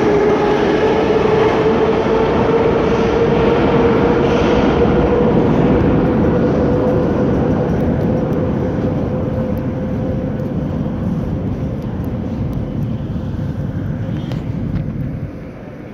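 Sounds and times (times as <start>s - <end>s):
metro train rumble: 0.0s - 15.9s
steady train whine: 0.0s - 15.9s.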